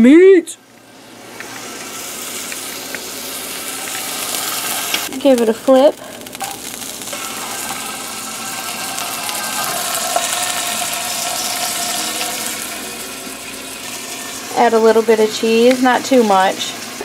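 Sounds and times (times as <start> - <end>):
burger patty sizzling in pan: 0.8 - 17.0.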